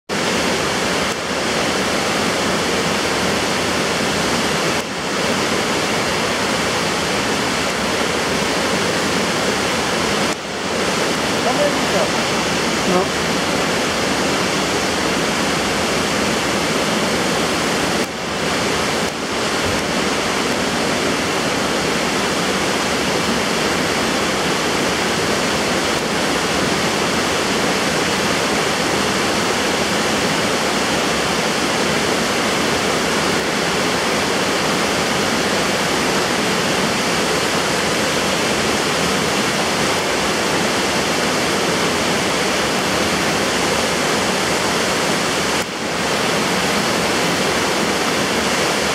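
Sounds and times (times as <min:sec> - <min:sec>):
floodwater rushing: 0:00.0 - 0:48.9.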